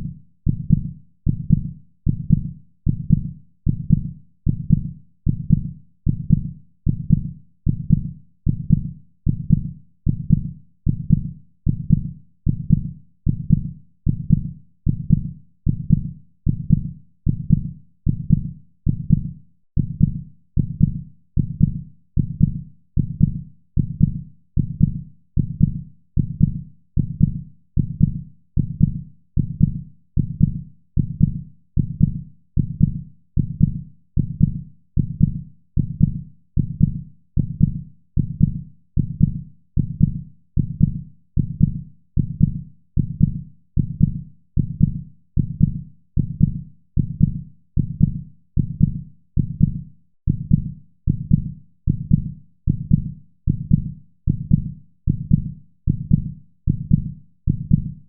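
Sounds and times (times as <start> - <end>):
heartbeat lub-dub: 0.0 - 58.0.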